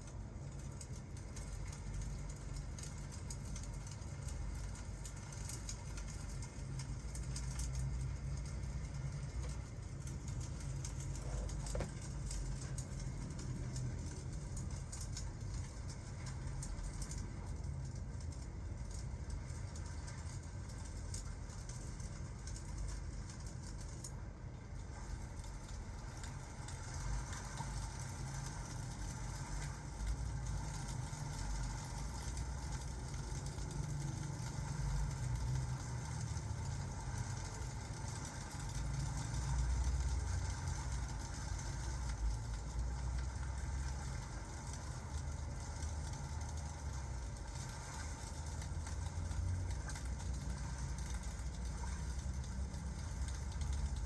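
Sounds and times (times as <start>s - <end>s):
faint rain hiss: 0.0s - 54.0s
fireplace low rumble: 0.0s - 54.0s.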